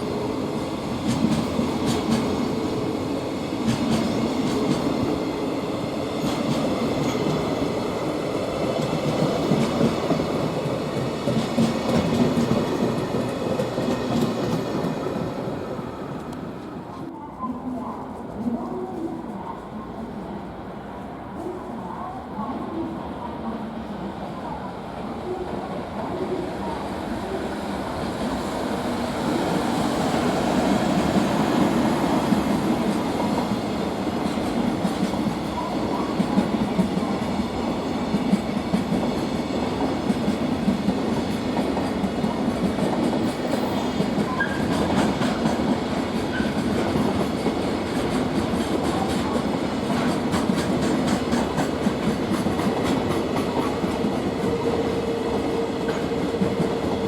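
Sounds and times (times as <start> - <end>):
train wheels rumbling on rails: 0.0 - 17.4, 27.9 - 57.0.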